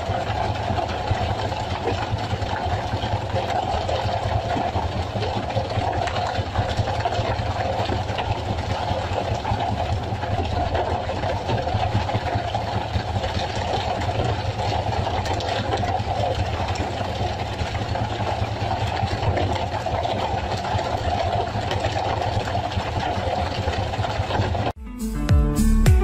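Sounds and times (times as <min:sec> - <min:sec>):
boat engine droning: 0:00.0 - 0:24.7.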